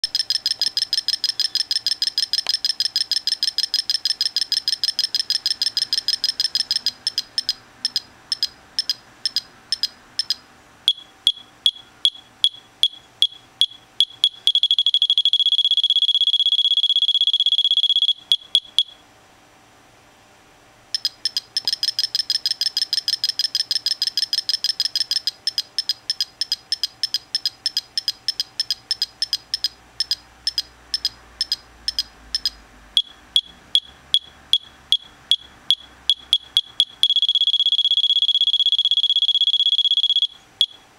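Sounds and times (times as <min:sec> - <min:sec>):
electronic alarm beeping: 0:00.0 - 0:19.0, 0:21.0 - 0:40.8.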